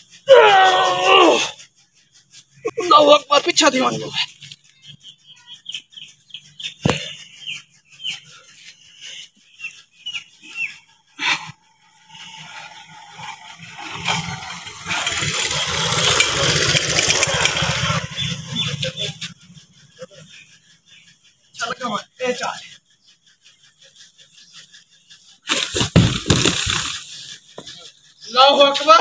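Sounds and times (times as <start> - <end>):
small birds chirping: 0.0 - 0.3, 0.9 - 15.7, 16.7 - 29.0.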